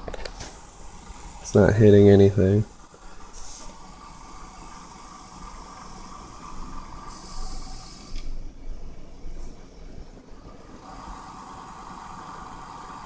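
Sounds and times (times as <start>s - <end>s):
fan whirring and hissing: 0.0s - 13.0s.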